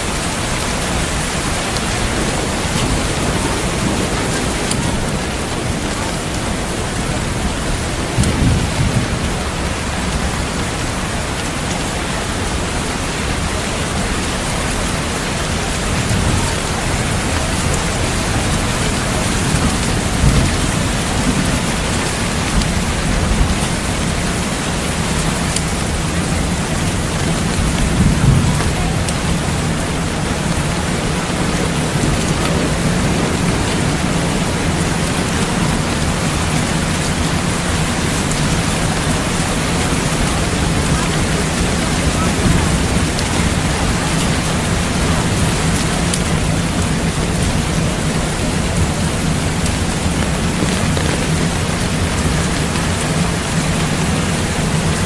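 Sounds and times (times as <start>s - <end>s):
heavy rain falling: 0.0s - 55.0s
low thunder rumble: 0.0s - 55.0s.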